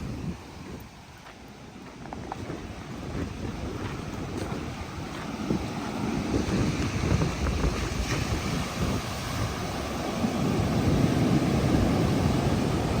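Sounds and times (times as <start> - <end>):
heavy surf: 0.0 - 13.0
wind buffeting microphone: 0.0 - 13.0.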